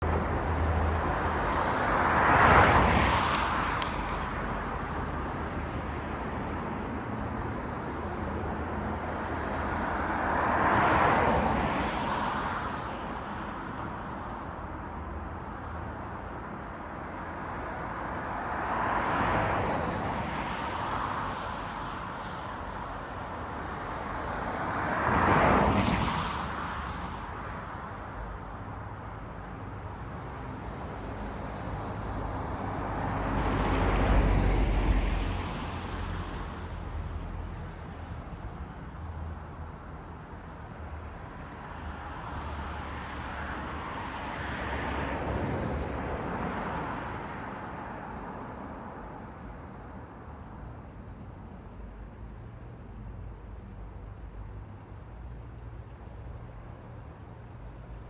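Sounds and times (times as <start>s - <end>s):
vehicles passing by: 0.0s - 16.6s, 17.5s - 58.0s
low traffic hum: 0.0s - 58.0s.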